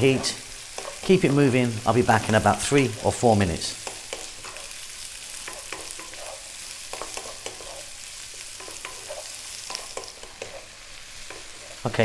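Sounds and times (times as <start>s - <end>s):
vegetables sizzling in oil: 0.0s - 12.0s
spatula scraping a wok: 0.1s - 3.1s, 3.8s - 11.9s.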